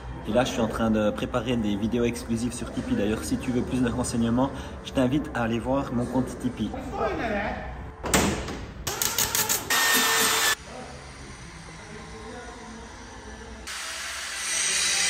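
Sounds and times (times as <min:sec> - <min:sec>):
workshop background noise: 0:00.0 - 0:15.0.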